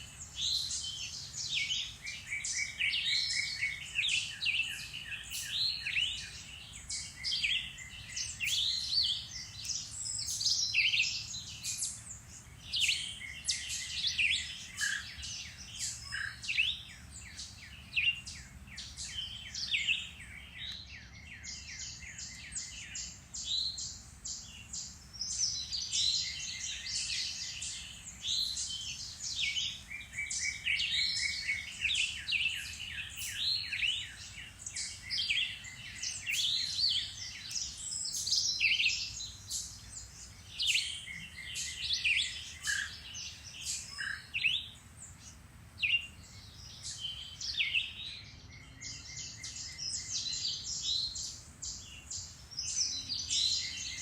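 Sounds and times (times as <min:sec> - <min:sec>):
songbirds chorus: 0:00.0 - 0:54.0.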